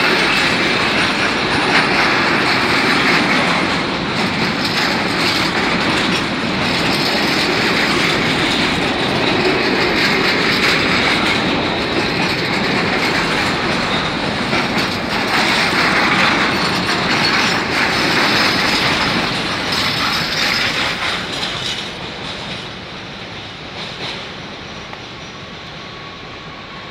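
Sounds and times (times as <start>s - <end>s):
freight wagons rolling on rails: 0.0s - 22.8s.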